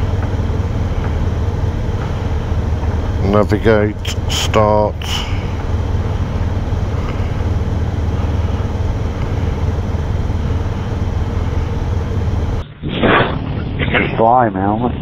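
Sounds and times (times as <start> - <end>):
motorcycle engines idling: 0.0 - 12.6.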